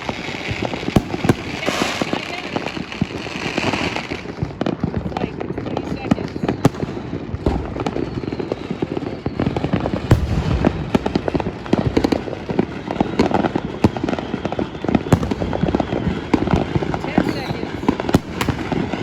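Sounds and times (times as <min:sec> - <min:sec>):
fireworks and firecrackers popping: 0:00.0 - 0:19.0
loud fireworks bangs: 0:00.0 - 0:19.0.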